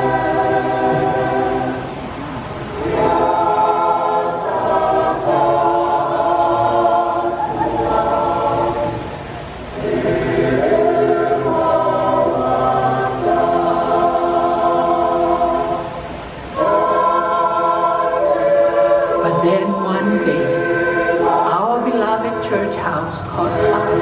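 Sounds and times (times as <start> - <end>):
choir singing a hymn: 0.0 - 24.0.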